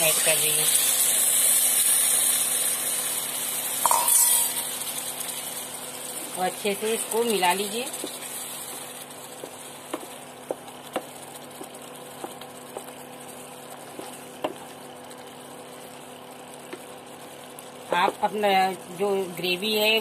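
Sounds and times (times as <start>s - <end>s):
gravy sizzling and bubbling: 0.0s - 20.0s.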